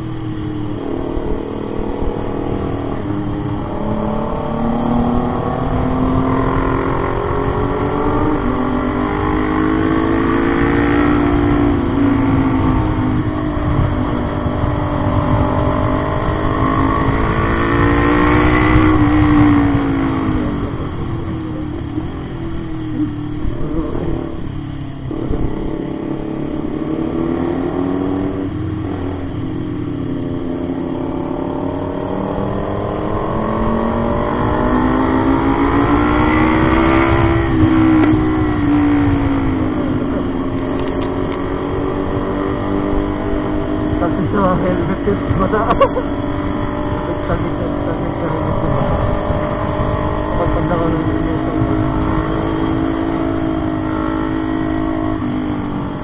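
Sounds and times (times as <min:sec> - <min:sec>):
motorcycle engine accelerating: 0:00.0 - 0:56.0
wind buffeting microphone: 0:09.7 - 0:56.0.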